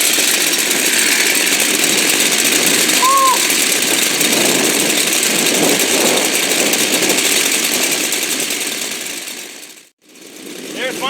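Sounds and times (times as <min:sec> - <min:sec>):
two-stroke chainsaw engine running: 0:00.0 - 0:11.0.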